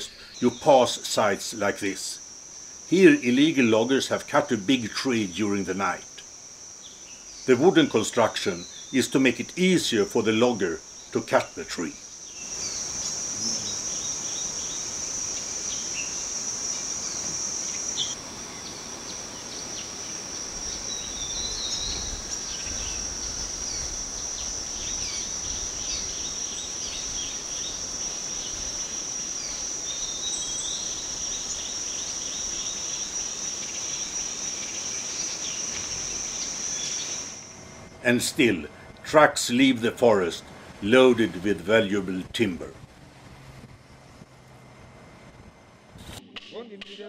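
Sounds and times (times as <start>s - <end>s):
high-pitched insect trill: 0.0s - 41.6s.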